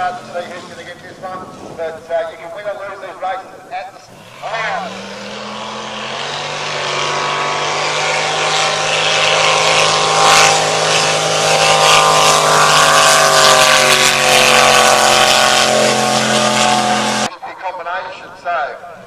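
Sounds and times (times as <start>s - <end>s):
boat engine at full throttle: 0.0s - 17.3s.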